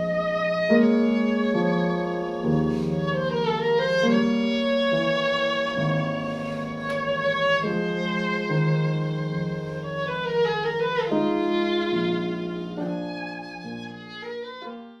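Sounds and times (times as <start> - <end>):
bowed viola: 0.0 - 15.0.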